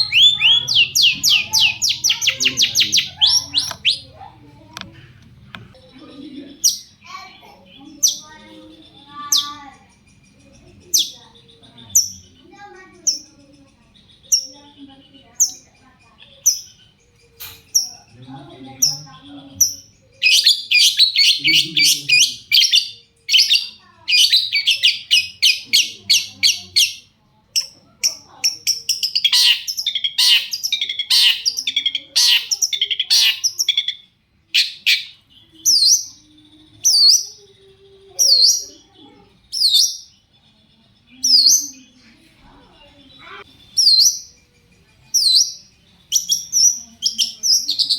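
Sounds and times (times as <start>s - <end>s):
bird chattering song: 0.0s - 47.9s.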